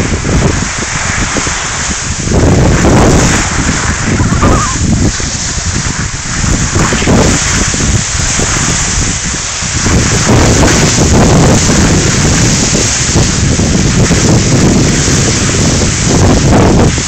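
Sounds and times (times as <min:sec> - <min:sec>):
skis sliding on snow: 0:00.0 - 0:17.0
wind buffeting microphone: 0:00.0 - 0:17.0.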